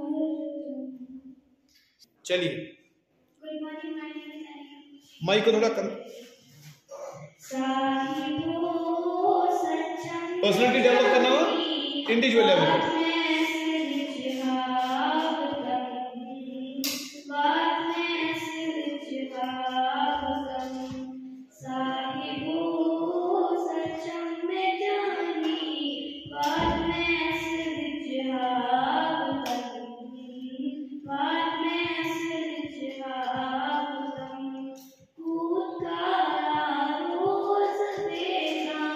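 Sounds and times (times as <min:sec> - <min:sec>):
girl singing into microphone: 0:00.0 - 0:01.2, 0:06.1 - 0:38.9.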